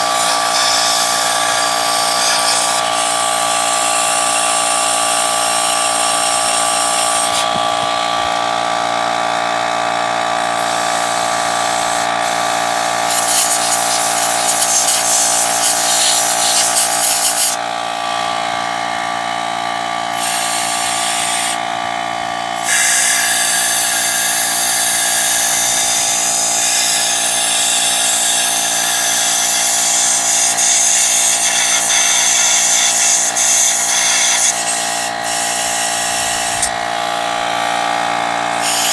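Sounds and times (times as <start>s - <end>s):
air blow gun hissing: 0.0s - 7.9s, 10.6s - 17.6s, 20.1s - 21.6s, 22.6s - 37.3s, 38.5s - 38.9s
air compressor motor whining: 0.0s - 38.9s.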